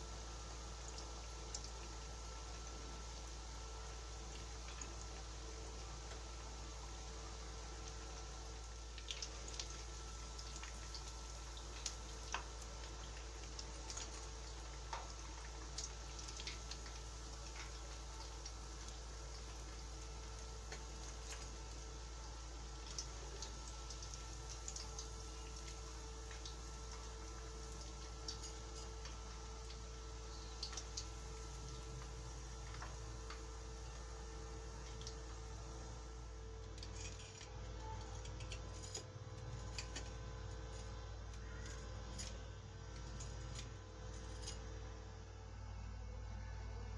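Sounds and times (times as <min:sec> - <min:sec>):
oil sizzling in a wok: 0:00.0 - 0:45.5
small pops and crackles: 0:00.8 - 0:06.4, 0:07.6 - 0:44.7.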